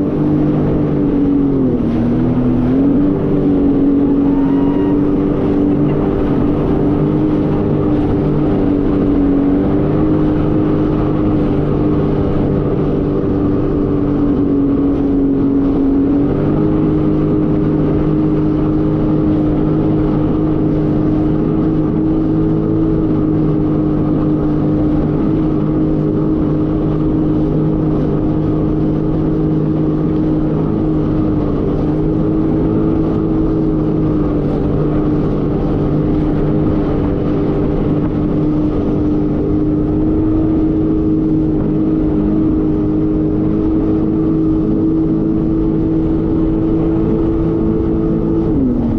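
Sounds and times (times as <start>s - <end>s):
jet ski engine running: 0.0s - 48.9s.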